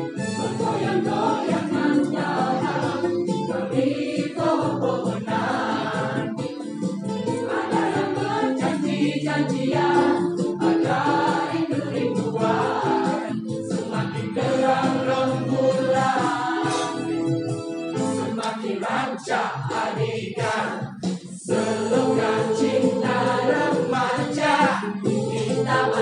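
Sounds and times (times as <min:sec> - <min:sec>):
choir singing with accompaniment: 0:00.0 - 0:26.0.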